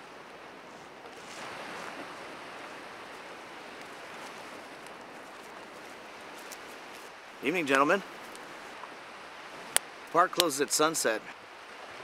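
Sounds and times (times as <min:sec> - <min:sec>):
ocean surf: 0:00.0 - 0:12.0.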